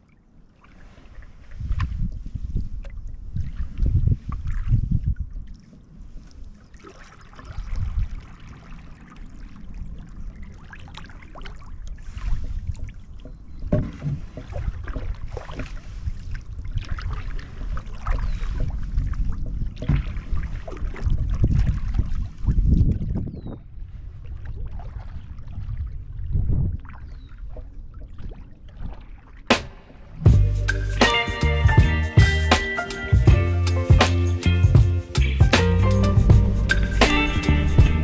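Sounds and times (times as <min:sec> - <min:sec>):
water splashing and dripping: 0:00.0 - 0:23.1, 0:24.3 - 0:38.0
canoe paddle pulling through water: 0:00.0 - 0:23.2, 0:23.8 - 0:31.2, 0:35.6 - 0:38.0
wind rumbling on microphone: 0:00.8 - 0:30.6, 0:34.6 - 0:38.0.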